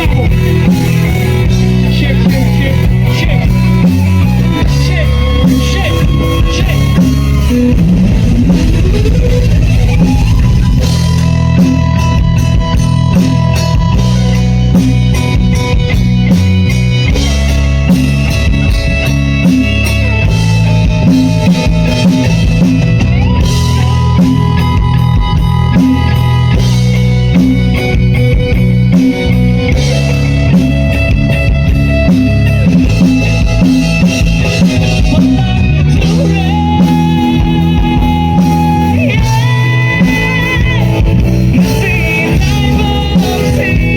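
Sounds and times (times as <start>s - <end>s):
rock band playing loudly: 0.0s - 43.9s.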